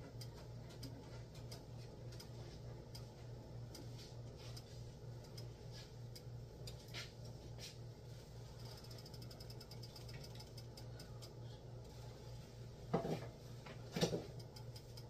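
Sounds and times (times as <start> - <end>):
soft ticks and crackles: 0.0 - 15.0
steady low hum: 0.0 - 15.0.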